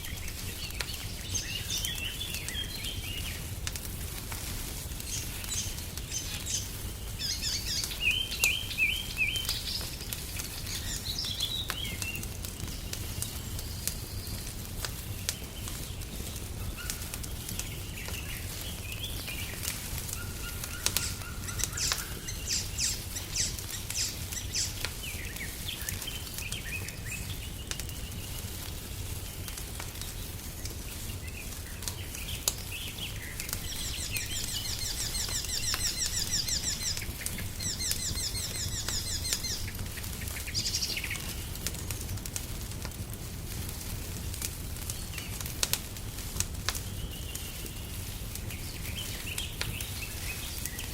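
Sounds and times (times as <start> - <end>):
songbirds chirping and trilling: 0.0 - 42.2, 46.6 - 50.9
log fire crackling: 0.0 - 50.9.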